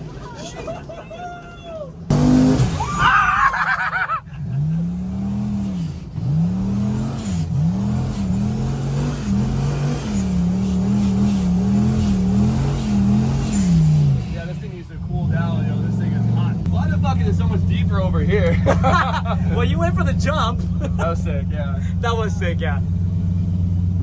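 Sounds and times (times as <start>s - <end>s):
vehicle engine revving: 2.1s - 24.0s.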